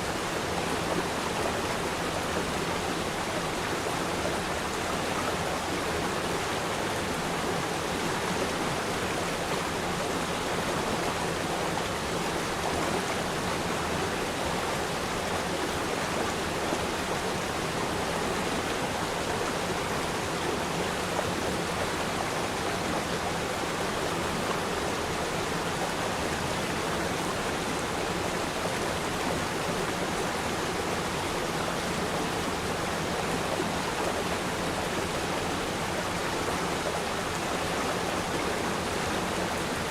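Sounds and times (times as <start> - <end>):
river stream flowing: 0.0 - 39.9.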